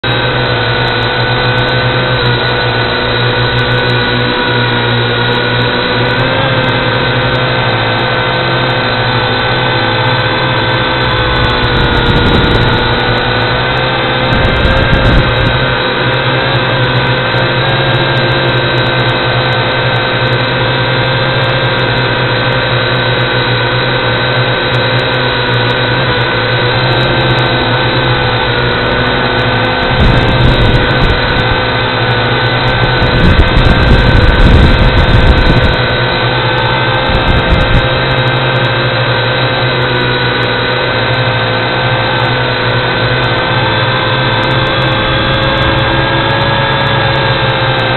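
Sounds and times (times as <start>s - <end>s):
model motor whining: 0.0s - 47.9s.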